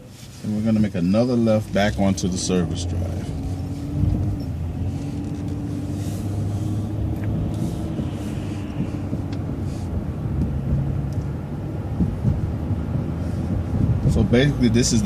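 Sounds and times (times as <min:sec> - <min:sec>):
bus engine hum: 0:00.0 - 0:15.0
road noise: 0:00.0 - 0:15.0.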